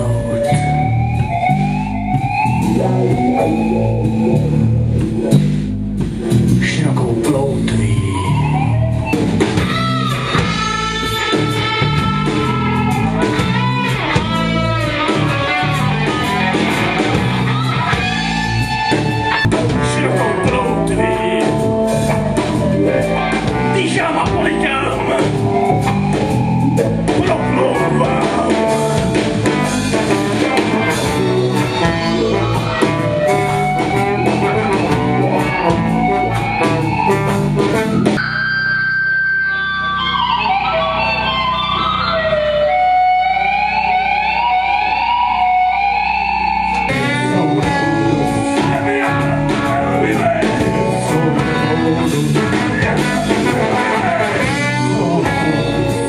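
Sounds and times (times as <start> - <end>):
drum kit: 0.0 - 38.4, 46.6 - 56.0
bass guitar: 0.0 - 56.0
electric guitar: 0.0 - 56.0.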